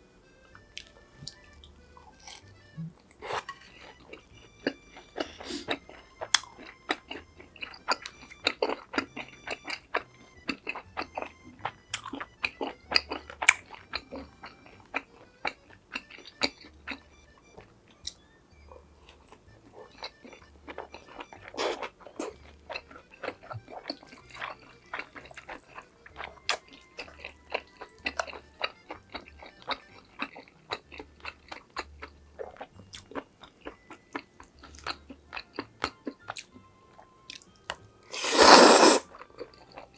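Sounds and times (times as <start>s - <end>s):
soft background music: 0.0s - 39.9s
chewing crunchy food: 0.4s - 39.9s.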